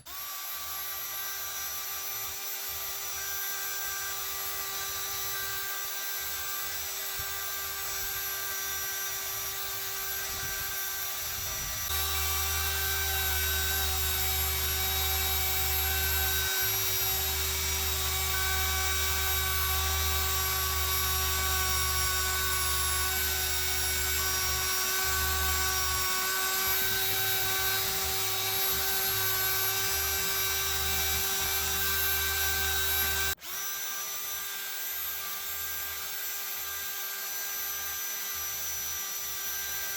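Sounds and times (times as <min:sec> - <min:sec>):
power tool motor whine: 0:00.0 - 0:39.9.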